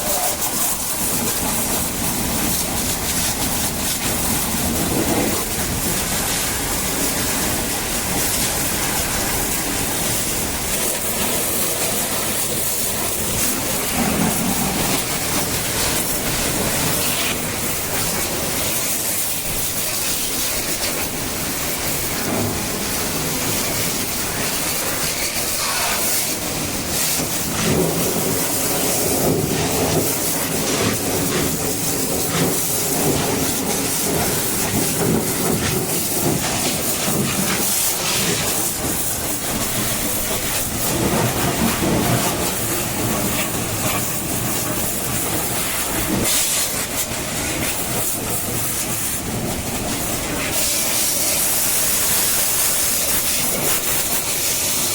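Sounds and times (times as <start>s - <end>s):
water jet hissing and spraying: 0.0s - 54.9s.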